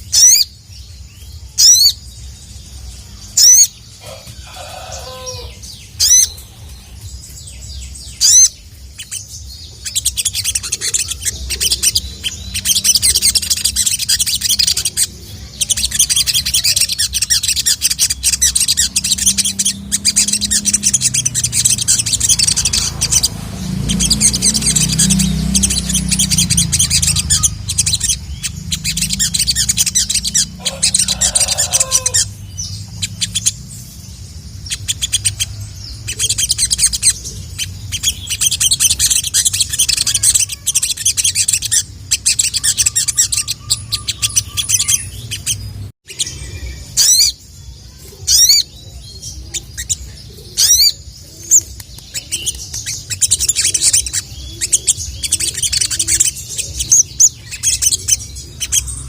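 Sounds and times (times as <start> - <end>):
bird chirping trill: 0.0 - 59.0.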